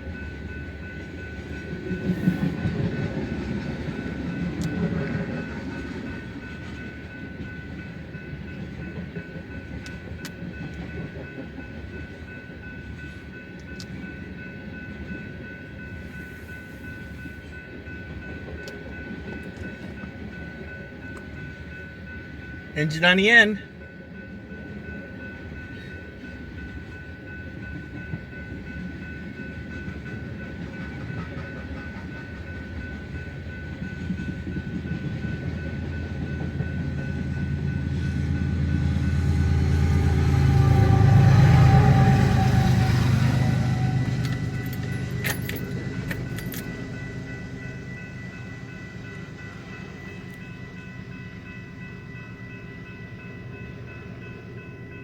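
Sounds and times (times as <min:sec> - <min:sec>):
diesel locomotive passing: 0:00.0 - 0:55.0
steady high ringing tones: 0:00.0 - 0:55.0.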